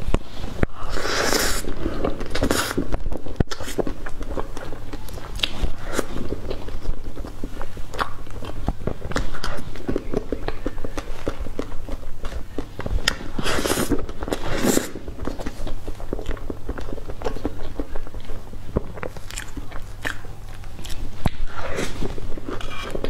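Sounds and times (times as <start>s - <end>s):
chewing with wet mouth clicks: 2.0s - 14.4s, 15.2s - 23.0s.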